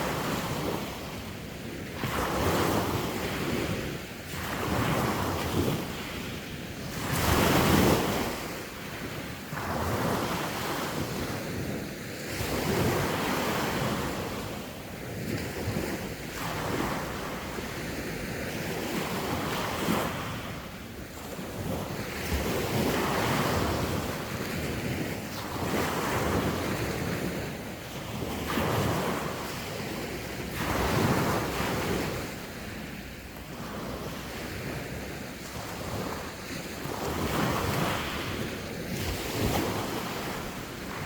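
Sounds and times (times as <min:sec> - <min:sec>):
sea waves washing ashore: 0:00.0 - 0:41.0
wind buffeting microphone: 0:00.0 - 0:41.0.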